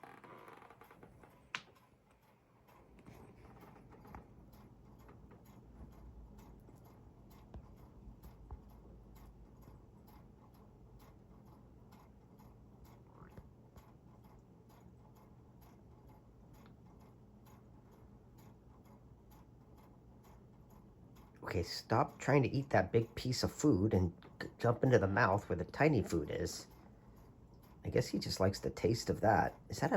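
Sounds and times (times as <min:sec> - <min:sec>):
faint ticking: 0:00.0 - 0:29.9
low steady hum: 0:00.0 - 0:29.9.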